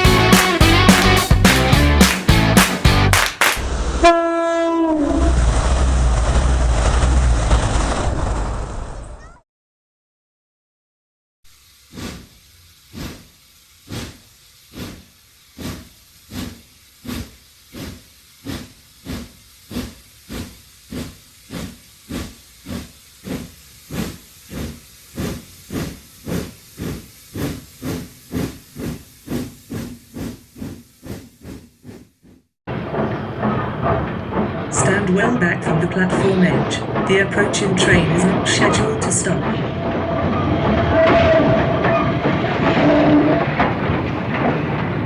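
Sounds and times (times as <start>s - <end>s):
steam hissing: 0.0s - 4.0s, 11.5s - 45.0s
steam locomotive chuffing: 0.0s - 4.4s, 11.5s - 45.0s.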